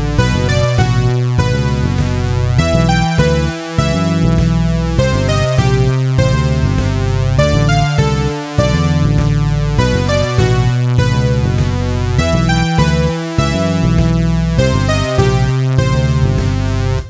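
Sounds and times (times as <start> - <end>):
stepped synth notes: 0.0 - 17.0
sustained synth bass: 0.0 - 17.0.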